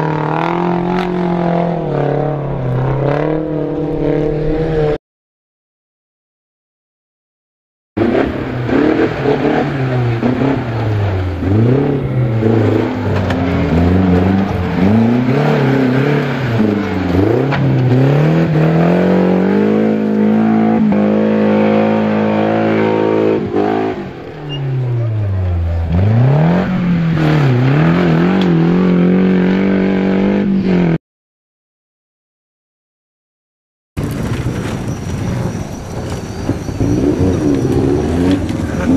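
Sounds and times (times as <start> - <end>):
car engine revving: 0.0 - 5.0, 8.0 - 31.0, 34.0 - 38.9.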